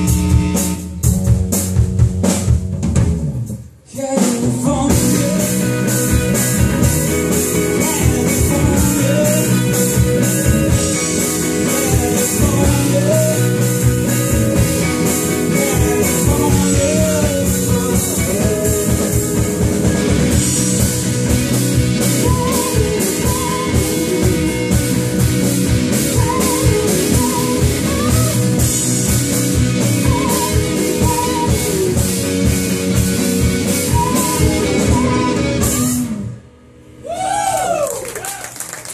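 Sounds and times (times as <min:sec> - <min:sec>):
electric guitars: 0:00.0 - 0:02.2, 0:04.4 - 0:38.9
drum kit: 0:00.0 - 0:36.5
bass guitar: 0:00.0 - 0:38.9.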